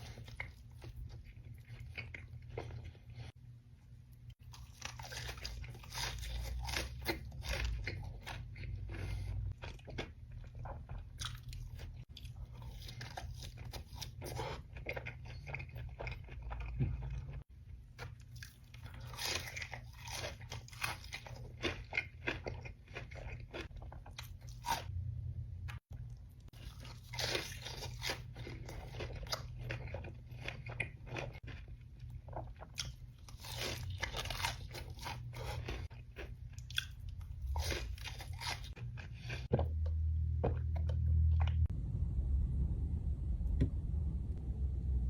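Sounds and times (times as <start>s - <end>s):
crunchy chewing of crisp food: 0.0s - 3.4s, 4.2s - 24.9s, 25.7s - 41.7s.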